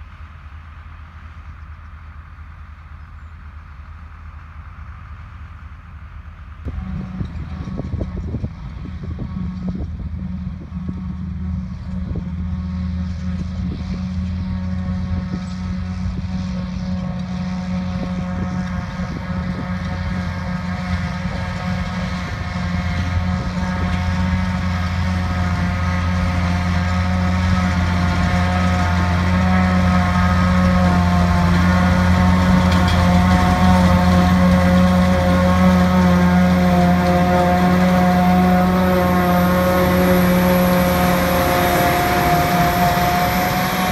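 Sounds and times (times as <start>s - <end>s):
diesel machinery engine hum: 0.0s - 43.9s
high machine whine: 6.7s - 43.9s.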